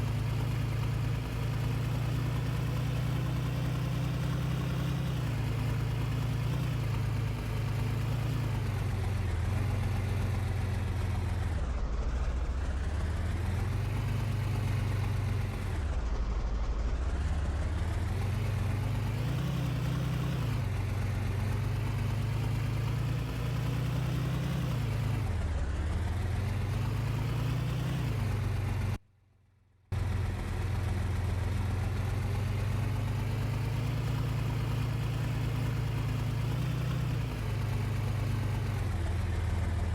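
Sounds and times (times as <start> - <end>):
vehicle engine revving: 0.0 - 15.9, 17.1 - 29.0, 30.0 - 39.9.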